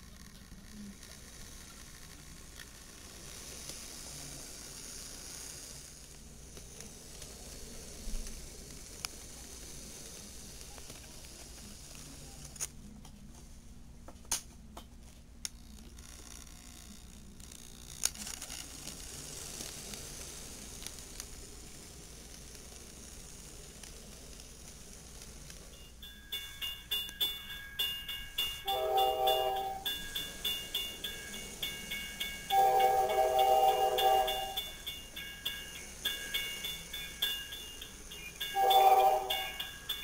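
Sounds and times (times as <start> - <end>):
model train motor hum: 0.0 - 12.7, 15.4 - 40.0
steady hiss: 0.0 - 12.8, 18.0 - 40.0.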